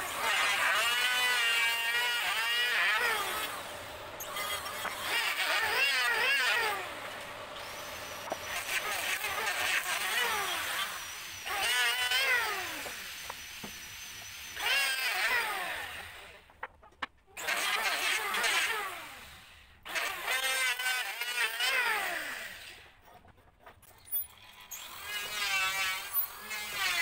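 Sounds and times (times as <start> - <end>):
electric planer shaving wood: 0.0 - 23.0, 24.5 - 27.0.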